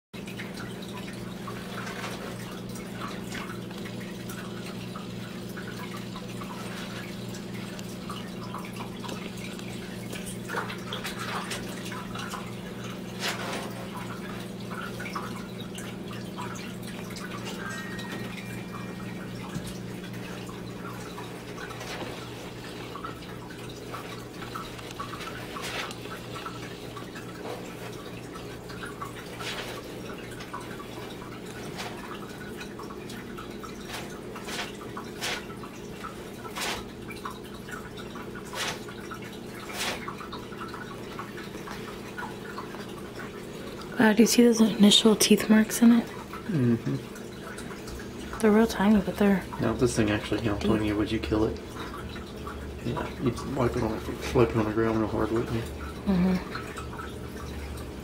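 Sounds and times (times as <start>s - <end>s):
water dripping in a tank: 0.2s - 58.0s.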